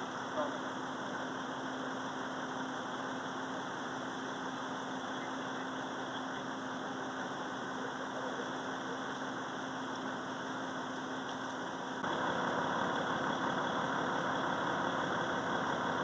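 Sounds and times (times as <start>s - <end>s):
fire engine idling: 0.0s - 16.0s.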